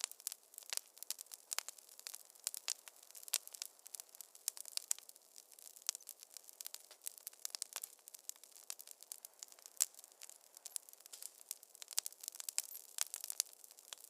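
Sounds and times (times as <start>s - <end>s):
faint hiss: 0.0s - 14.0s
wood fire crackling: 0.0s - 14.0s.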